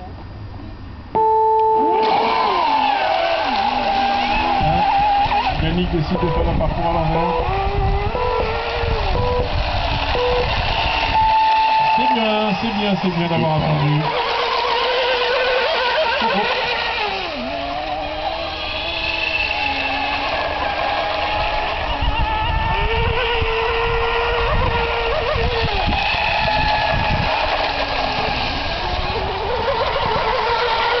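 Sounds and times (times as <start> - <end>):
vehicle engine revving: 1.2 - 31.0.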